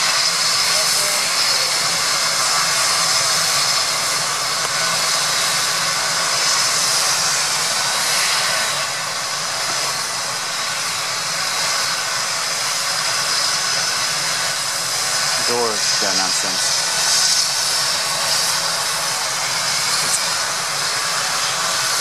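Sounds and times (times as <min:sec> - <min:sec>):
helicopter turbine whine: 0:00.0 - 0:22.0.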